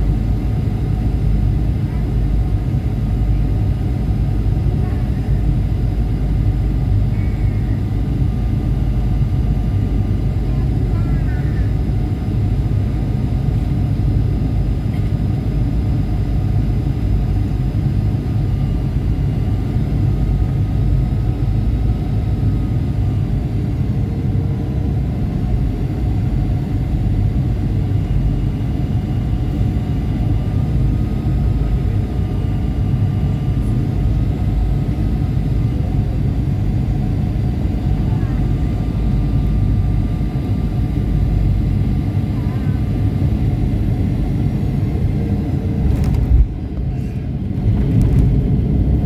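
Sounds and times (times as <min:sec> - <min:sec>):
jet cabin engine rumble: 0:00.0 - 0:49.0.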